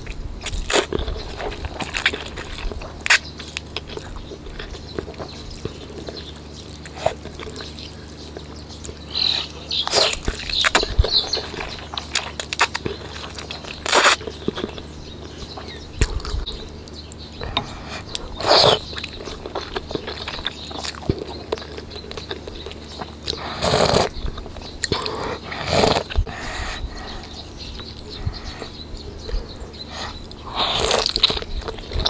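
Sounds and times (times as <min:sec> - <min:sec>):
chewing with clicks and smacks: 0:00.0 - 0:32.0.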